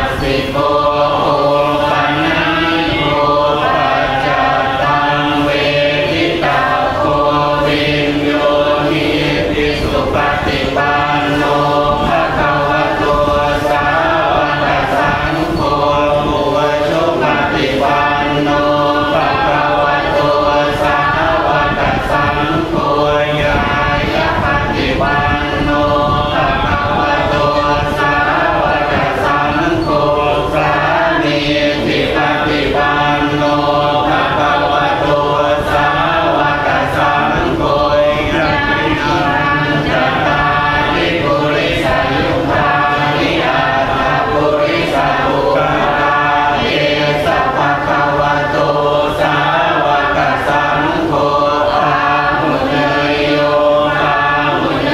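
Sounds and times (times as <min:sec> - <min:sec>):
group chanting in unison: 0:00.0 - 0:54.9.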